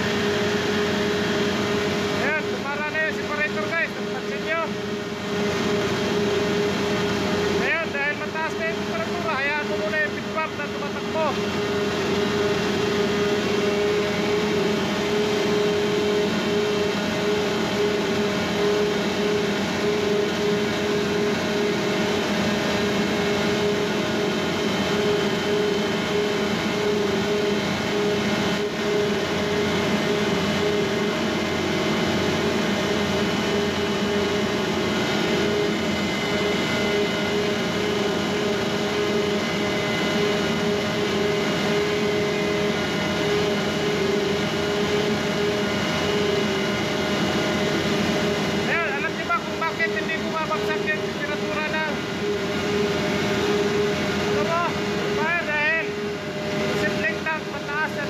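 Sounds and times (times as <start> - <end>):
separator machinery humming: 0.0 - 58.0.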